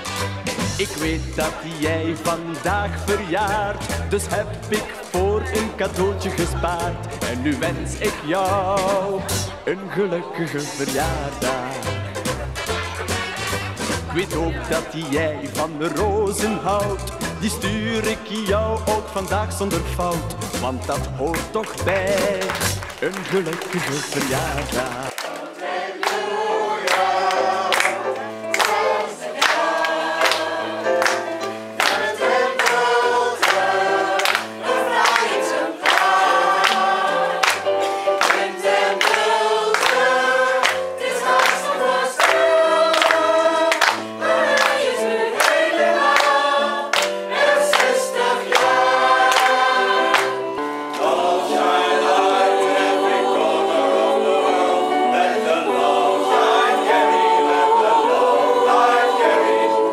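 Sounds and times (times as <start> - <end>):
choir singing: 0.8 - 17.0, 21.5 - 59.9.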